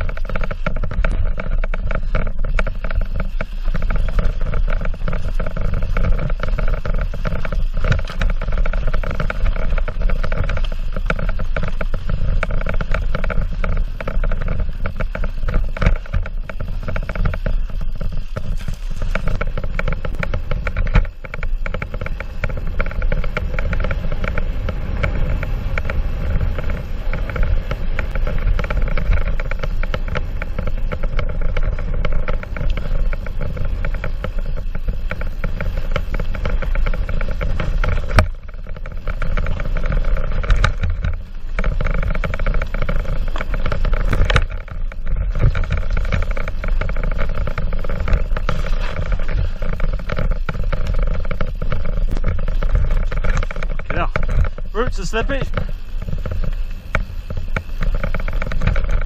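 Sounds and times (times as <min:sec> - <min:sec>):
bike knocking over bumps: 0:00.0 - 0:59.0
bike tyres rumbling on dirt: 0:00.0 - 0:59.0.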